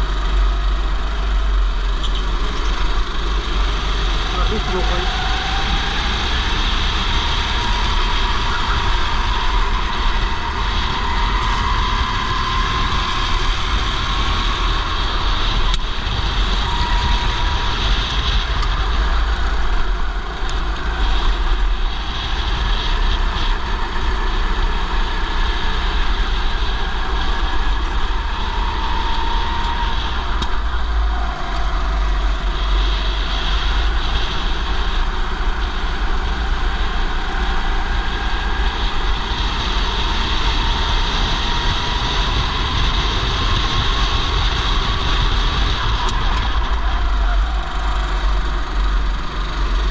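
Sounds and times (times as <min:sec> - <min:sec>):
go-kart engine revving: 0:00.0 - 0:49.9.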